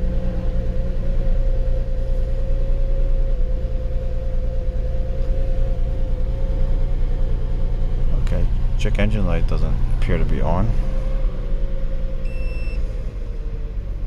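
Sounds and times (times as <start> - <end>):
car engine idling with whine: 0.0 - 14.0.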